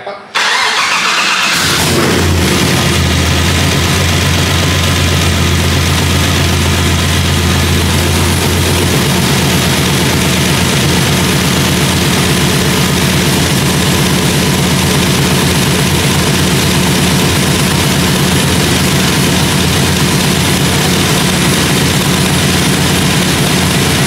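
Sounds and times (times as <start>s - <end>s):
truck engine running: 0.4s - 24.0s.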